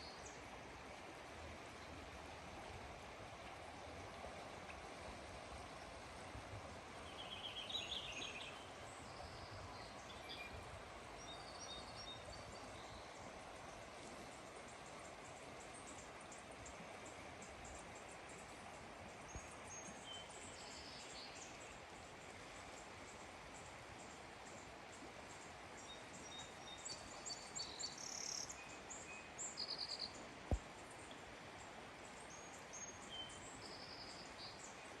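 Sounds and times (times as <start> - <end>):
faint outdoor hiss: 0.0 - 35.0
flowing water rushing: 0.0 - 35.0.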